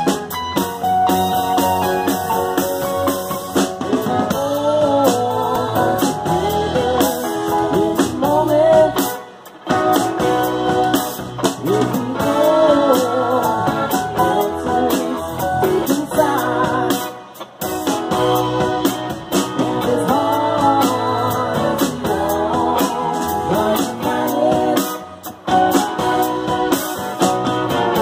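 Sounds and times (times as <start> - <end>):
live band playing soul song: 0.0 - 28.0
lead vocals: 1.2 - 28.0.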